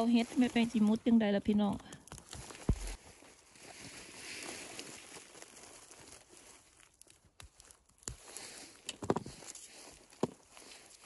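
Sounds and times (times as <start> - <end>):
gloved hands rustling through moss: 0.0 - 11.0.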